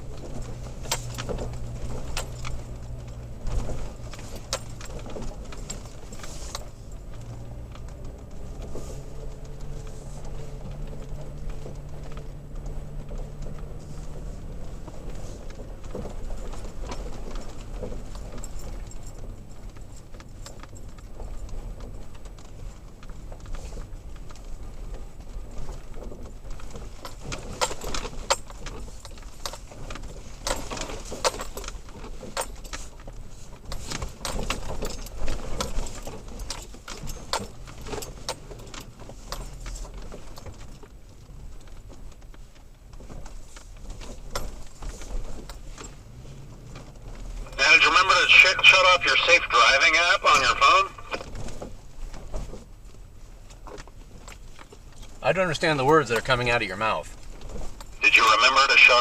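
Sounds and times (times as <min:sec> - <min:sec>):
low road and engine rumble: 0:00.0 - 0:59.0
rattles and knocks of loose gear: 0:00.0 - 0:59.0.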